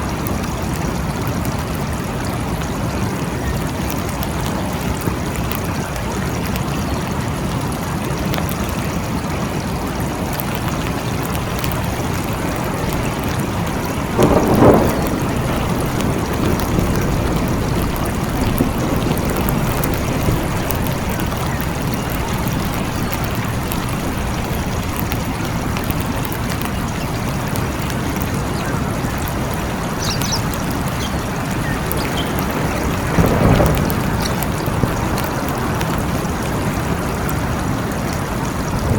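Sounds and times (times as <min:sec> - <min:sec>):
steady rain in forest: 0:00.0 - 0:38.9.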